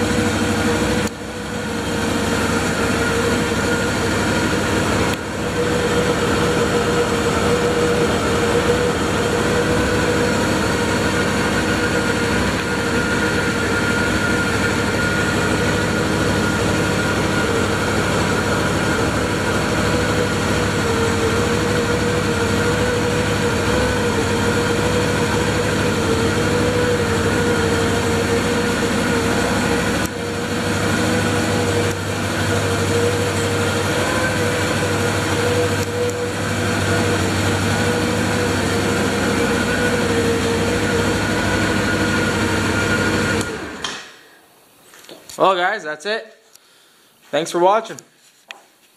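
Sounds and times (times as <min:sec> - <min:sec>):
engine idling with whine: 0:00.0 - 0:44.2.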